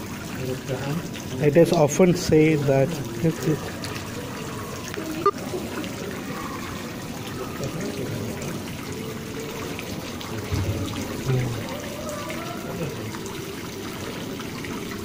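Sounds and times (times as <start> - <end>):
water trickling and splashing: 0.0 - 15.0
faint voices: 2.6 - 15.0.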